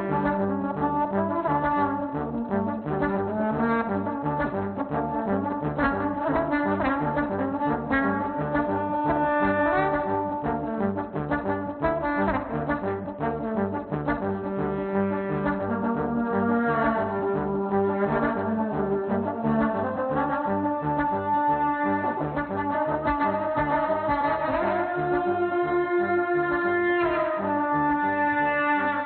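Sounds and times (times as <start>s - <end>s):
low bass pulse: 0.0s - 27.9s
looped trombone parts: 0.0s - 29.0s
trombone melody: 0.0s - 29.0s.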